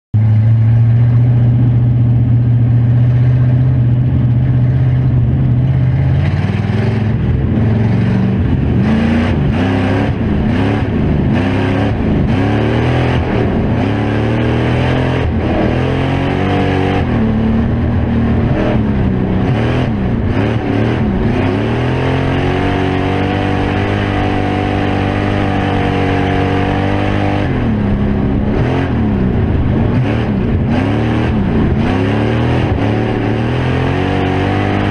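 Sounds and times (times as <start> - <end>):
race car engine revving: 0.2 - 34.9.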